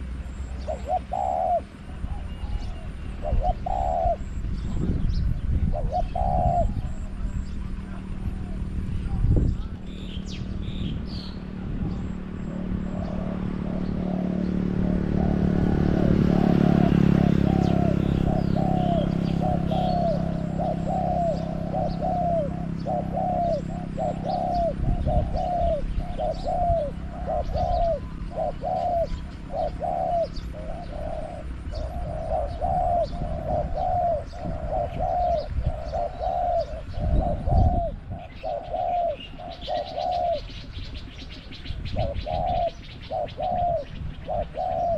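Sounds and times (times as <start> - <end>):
dove cooing: 0.0 - 44.9
small birds chirping: 0.0 - 44.9.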